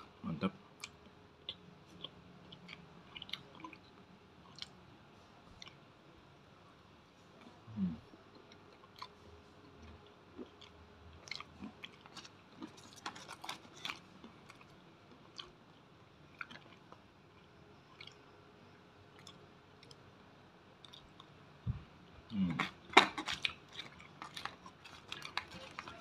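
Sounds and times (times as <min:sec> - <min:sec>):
crunchy chewing of fried dumplings: 0:00.0 - 0:06.0, 0:07.2 - 0:21.6, 0:22.3 - 0:26.0.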